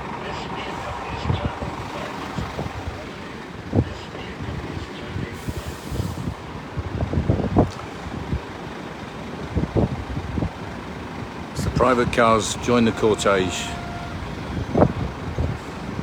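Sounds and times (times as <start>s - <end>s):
heavy lorries driving past: 0.0s - 16.0s
wind buffeting microphone: 0.6s - 16.0s.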